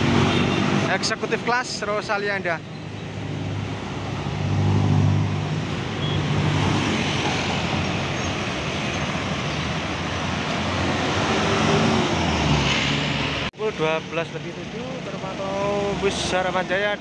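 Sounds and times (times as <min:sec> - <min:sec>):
tyre and traffic noise: 0:00.0 - 0:17.0.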